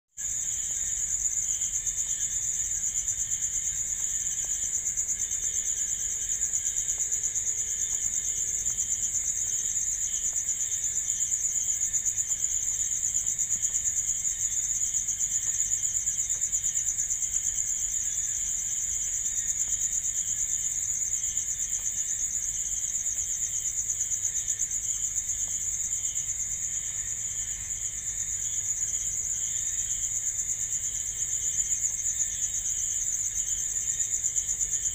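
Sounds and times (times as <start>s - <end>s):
crickets trilling: 0.2s - 34.9s
lower insect trill pulsing: 0.2s - 34.9s.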